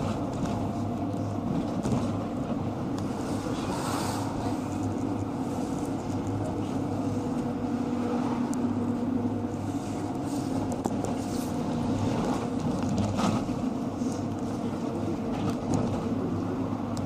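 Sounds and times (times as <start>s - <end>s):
diesel minibus engine running: 0.0s - 17.0s
vehicle running noise: 0.0s - 17.0s.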